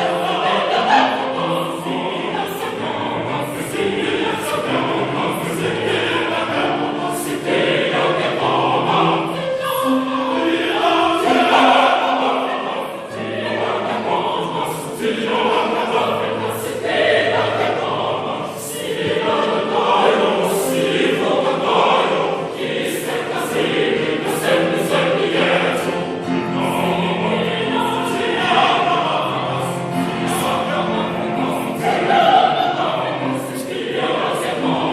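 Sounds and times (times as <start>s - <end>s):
choir singing in harmony: 0.0s - 34.9s.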